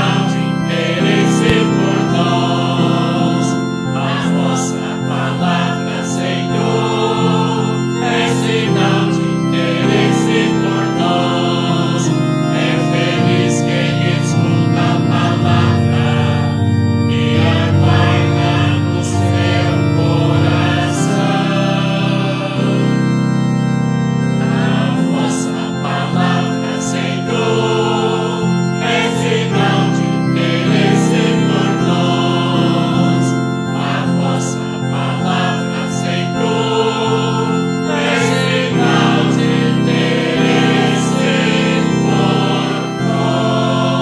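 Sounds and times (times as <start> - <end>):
organ playing hymn: 0.0 - 44.0.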